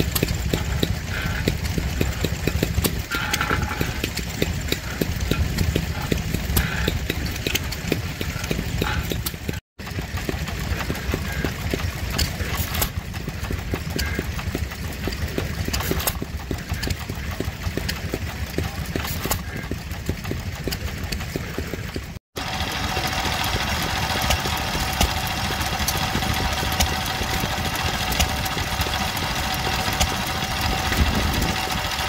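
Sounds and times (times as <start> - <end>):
stationary engine steady beat: 0.0 - 32.0.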